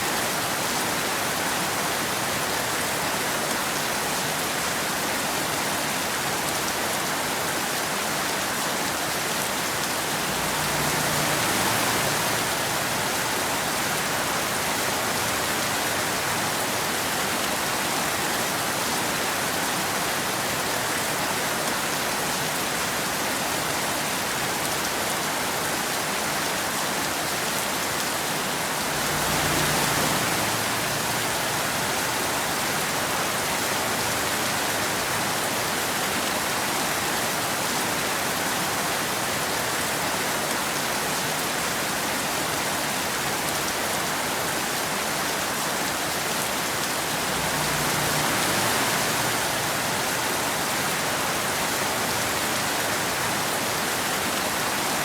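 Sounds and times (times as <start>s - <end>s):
rain falling on road and forest: 0.0s - 55.0s.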